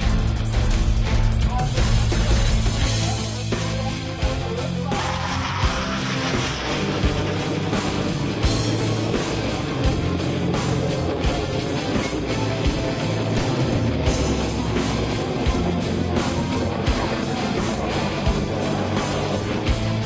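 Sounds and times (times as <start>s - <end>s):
bass line: 0.0s - 20.0s
electric guitar: 0.0s - 20.0s.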